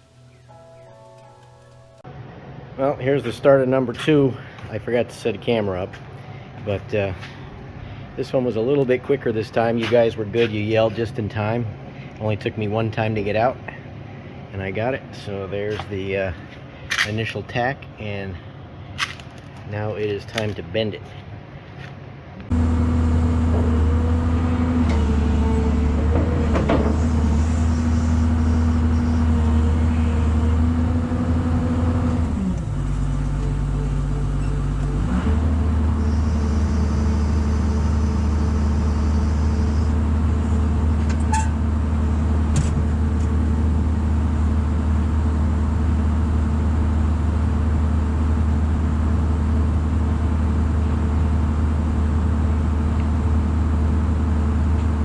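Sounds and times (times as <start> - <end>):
heavy machine engine running: 0.0 - 12.1, 22.5 - 55.0.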